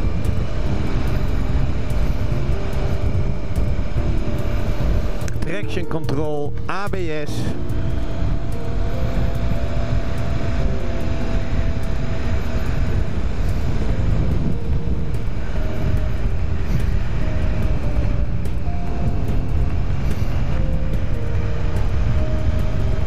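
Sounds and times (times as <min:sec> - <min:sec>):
motorcycle engine drone: 0:00.0 - 0:23.0
wind rumble on microphone: 0:00.0 - 0:23.0.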